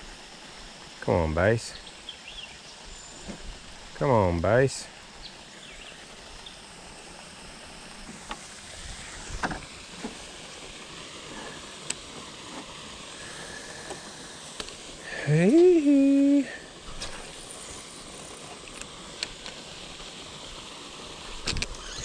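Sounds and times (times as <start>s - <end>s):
water around a canoe: 0.0s - 22.0s
wind: 0.0s - 22.0s.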